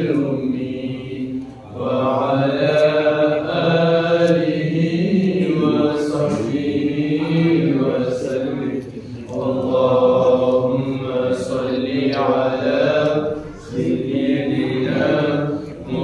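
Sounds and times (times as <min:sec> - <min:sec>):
man chanting unaccompanied: 0:00.0 - 0:16.0.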